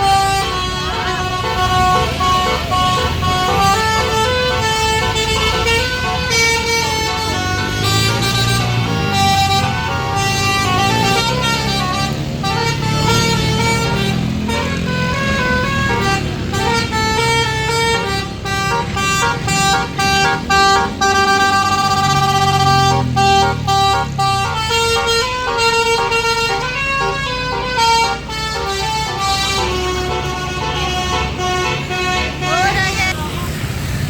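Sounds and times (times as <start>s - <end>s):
melodic bus horn tune: 0.0s - 33.2s
bus engine rumbling: 0.0s - 34.0s.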